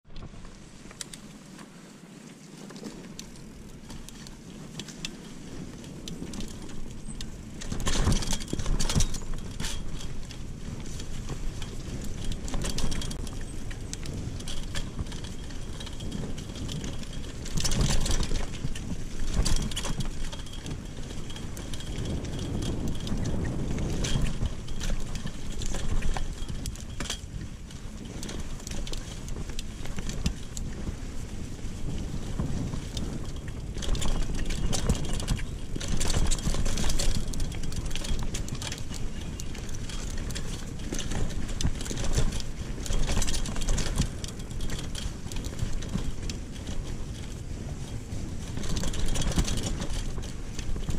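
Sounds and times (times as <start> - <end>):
bike tyres rolling on dirt: 0.0 - 50.9
bike jolting over bumps: 0.1 - 50.9
bike chain and parts rattling: 0.2 - 50.9.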